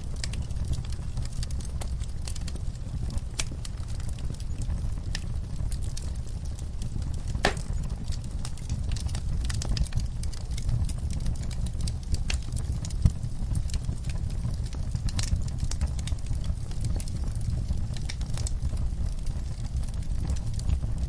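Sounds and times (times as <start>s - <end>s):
low steady fire rumble: 0.0s - 21.0s
logs crackling with sharp pops: 0.1s - 21.0s.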